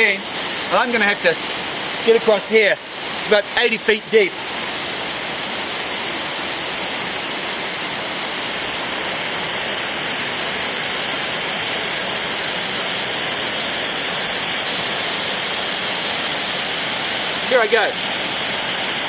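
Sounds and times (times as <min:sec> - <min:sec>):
fast river rushing: 0:00.0 - 0:19.0.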